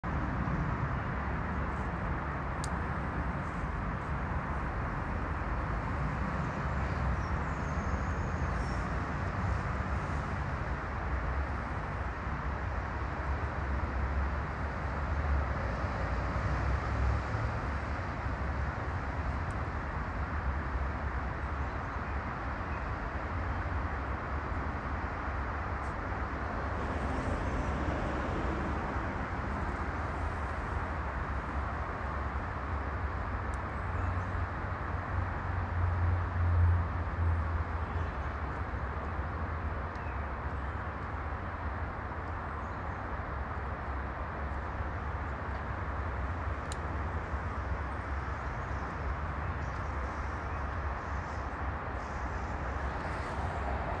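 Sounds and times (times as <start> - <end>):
distant traffic rumble: 0.0 - 54.0.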